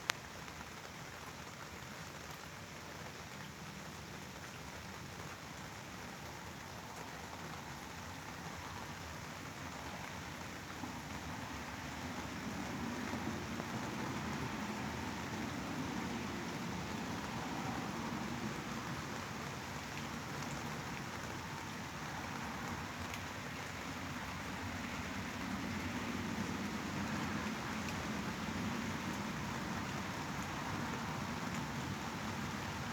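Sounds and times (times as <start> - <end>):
white noise hiss: 0.0 - 32.9.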